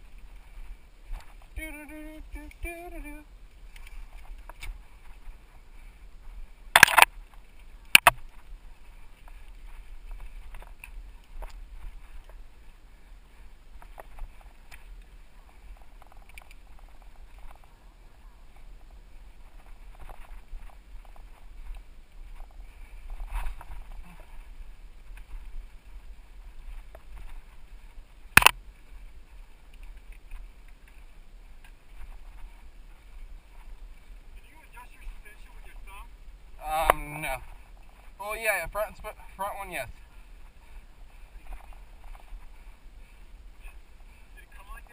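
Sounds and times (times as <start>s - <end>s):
wind: 0.0s - 44.9s
bike tyres rumbling on dirt: 3.2s - 44.9s.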